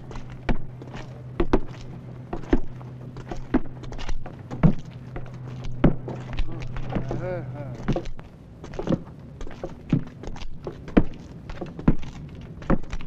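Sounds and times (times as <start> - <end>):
footsteps on a wooden platform: 0.0 - 13.0
steady low hum: 0.0 - 13.0.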